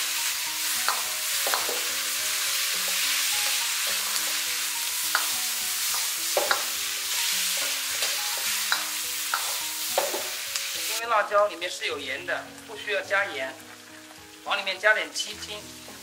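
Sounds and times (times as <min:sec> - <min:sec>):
meat sizzling in wok: 0:00.0 - 0:16.0.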